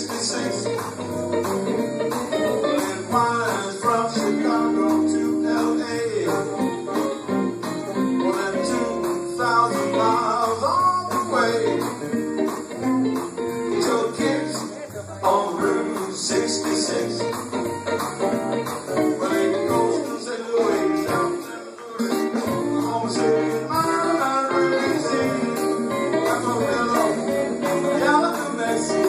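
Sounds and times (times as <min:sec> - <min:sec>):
voices singing: 0:00.0 - 0:29.0
worship band with guitar: 0:00.0 - 0:29.0.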